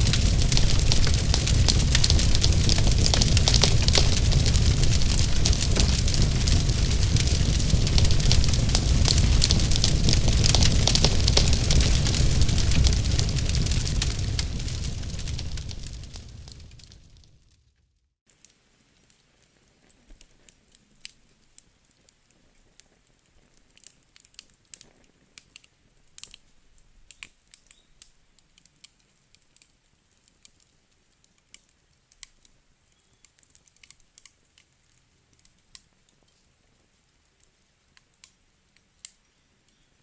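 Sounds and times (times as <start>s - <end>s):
wood fire crackling: 0.0s - 39.3s.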